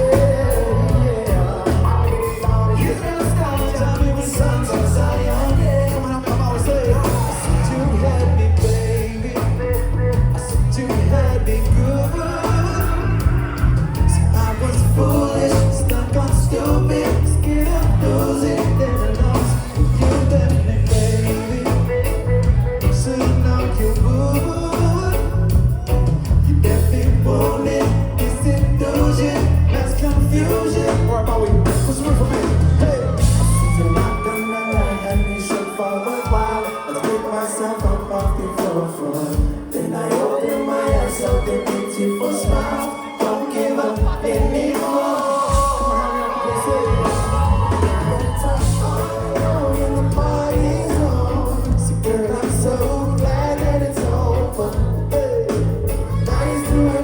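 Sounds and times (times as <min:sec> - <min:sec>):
heavy bass line: 0:00.0 - 0:35.2, 0:45.4 - 0:57.0
live reggae band playing: 0:00.0 - 0:57.0.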